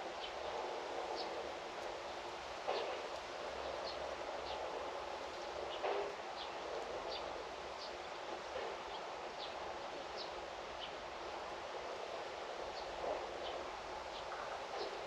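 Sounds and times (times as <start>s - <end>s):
rushing background hiss: 0.0s - 15.0s.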